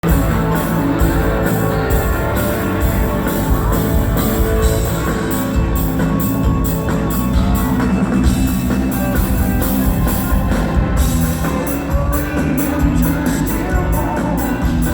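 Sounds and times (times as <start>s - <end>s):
drum kit and cymbals: 0.0s - 14.9s
electric guitar: 0.0s - 14.9s
live rock band playing: 0.0s - 14.9s.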